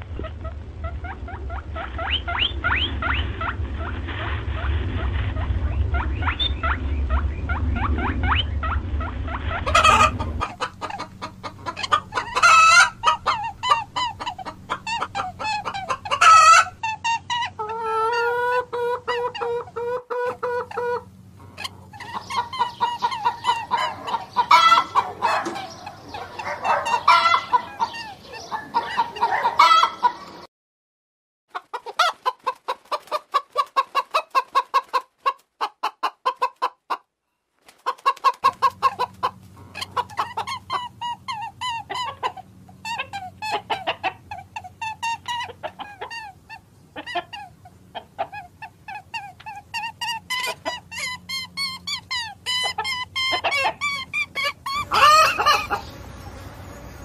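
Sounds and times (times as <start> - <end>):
chickens clucking: 0.0 - 30.5, 31.5 - 37.1, 37.7 - 57.0.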